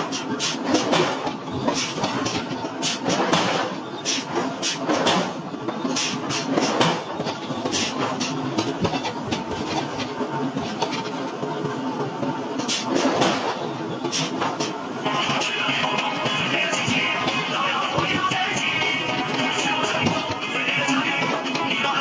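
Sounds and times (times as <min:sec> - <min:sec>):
forging machinery running: 0:00.0 - 0:22.0.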